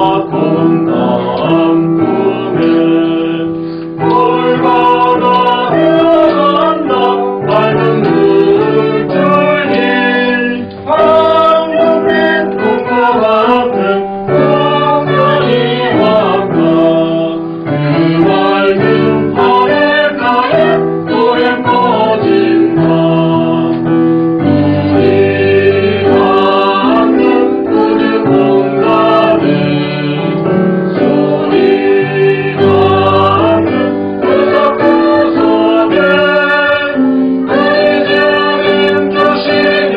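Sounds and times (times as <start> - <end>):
choir singing: 0.0 - 39.9
piano accompaniment: 0.0 - 39.9.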